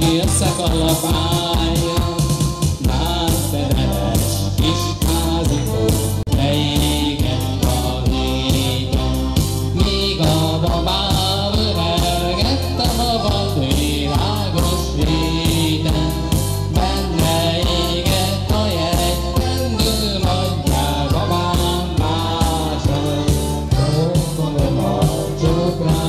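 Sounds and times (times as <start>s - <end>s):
folk dance music on keyboard: 0.0s - 26.0s
person singing: 0.0s - 26.0s.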